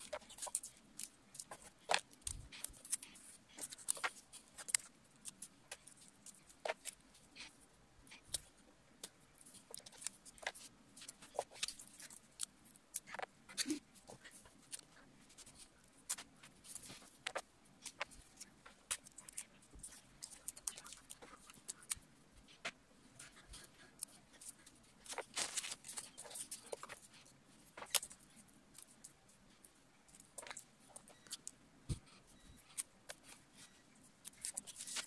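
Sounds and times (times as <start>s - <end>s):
paper and tape rustling: 0.0s - 35.0s.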